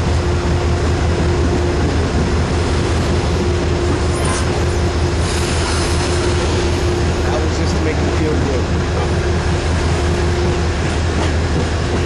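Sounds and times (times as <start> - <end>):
train cars rumbling past: 0.0 - 12.0.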